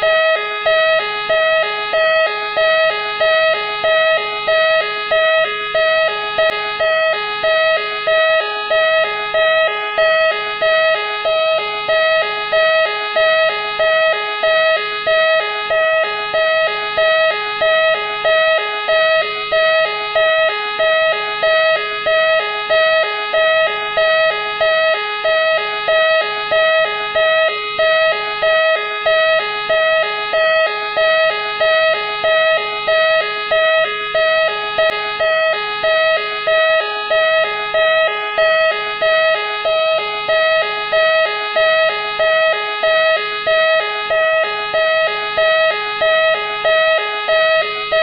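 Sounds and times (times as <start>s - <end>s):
police siren wailing: 0.0s - 48.0s.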